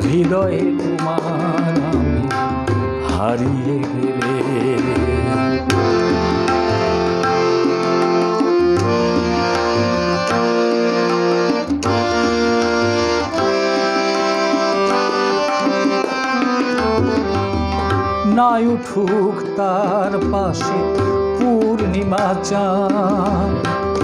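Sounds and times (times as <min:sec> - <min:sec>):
harmonium melody: 0:00.0 - 0:24.0
tabla drumming: 0:00.0 - 0:24.0.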